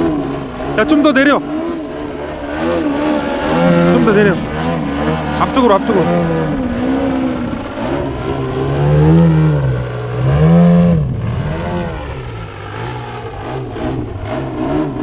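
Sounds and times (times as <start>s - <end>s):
model aircraft engine revving: 0.0s - 15.0s.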